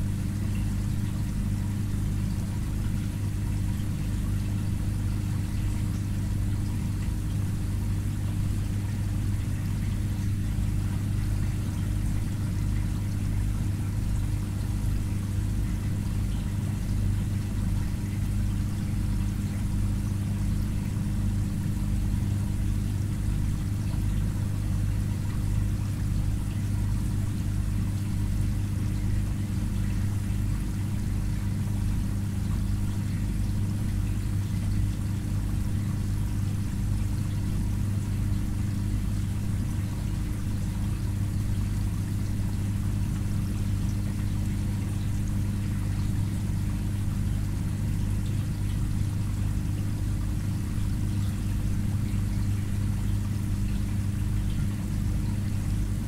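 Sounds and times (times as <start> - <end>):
aquarium pump humming: 0.0 - 56.0
water pouring and trickling: 0.1 - 56.0.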